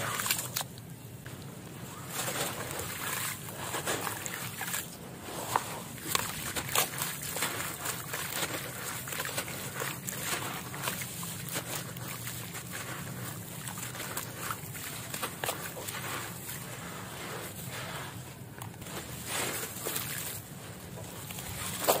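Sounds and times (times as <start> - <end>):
crumbs trickling into water: 2.0 - 22.0.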